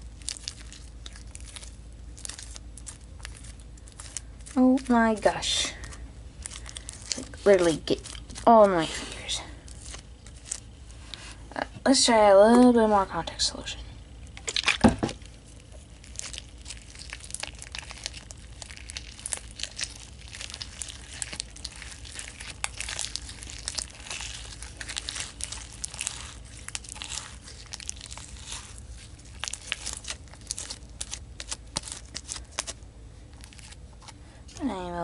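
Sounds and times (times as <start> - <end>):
slime crackling and popping: 0.0 - 10.9, 14.3 - 35.0.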